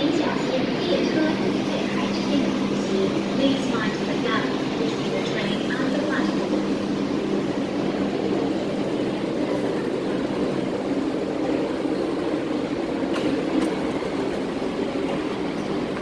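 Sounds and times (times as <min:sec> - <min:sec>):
train hum from on board: 0:00.0 - 0:16.0.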